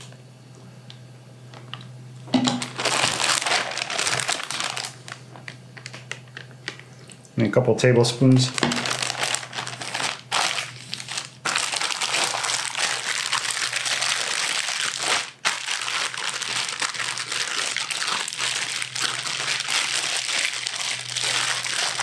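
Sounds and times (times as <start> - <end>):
plastic bag crinkling: 2.5 - 6.9, 8.4 - 22.0.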